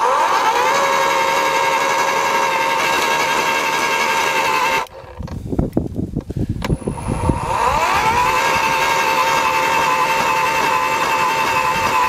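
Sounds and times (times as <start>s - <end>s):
electric motor whining: 0.0s - 5.4s, 6.6s - 12.0s.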